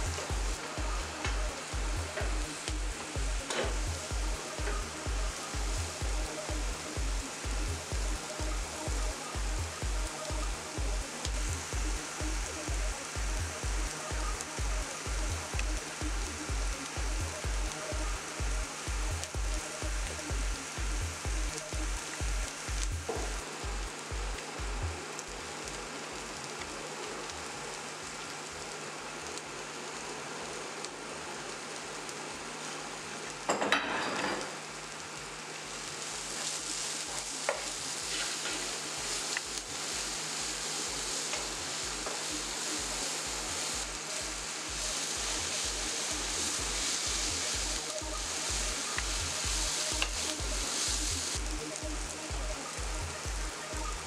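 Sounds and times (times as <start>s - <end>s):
vegetables sizzling in a frying pan: 0.0s - 54.0s.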